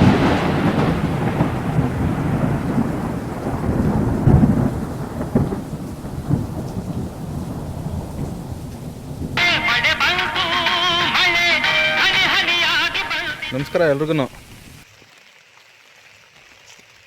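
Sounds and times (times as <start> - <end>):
thunder rumbling: 0.0 - 14.8
rain falling: 0.0 - 17.0.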